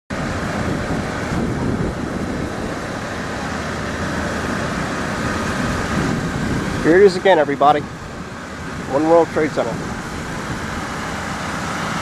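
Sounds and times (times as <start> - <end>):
distant road traffic: 0.1 - 12.0.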